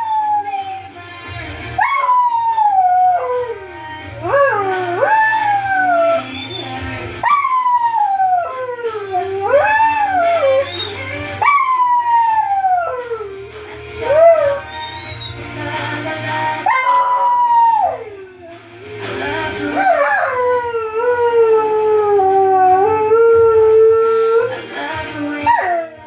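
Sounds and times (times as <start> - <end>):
dog howling: 0.0 - 3.6, 4.2 - 13.4, 14.0 - 15.4, 16.6 - 18.5, 19.7 - 24.5
song playing: 0.0 - 26.0.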